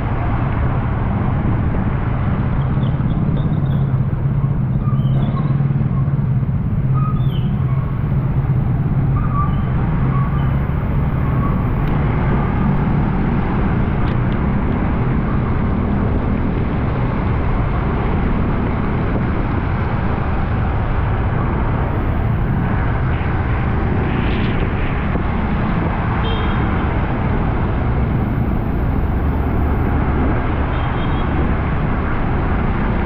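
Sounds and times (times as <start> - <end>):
motorcycle engine hum: 0.0 - 33.0
wind and road noise: 0.0 - 33.0.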